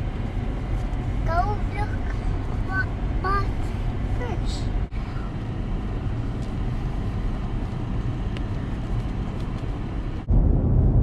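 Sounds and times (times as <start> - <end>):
car road and engine noise: 0.0 - 11.0
deep rumble: 0.0 - 11.0.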